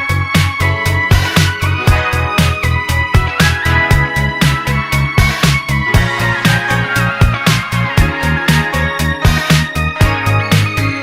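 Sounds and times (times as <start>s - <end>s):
upbeat electronic dance music: 0.0s - 11.0s.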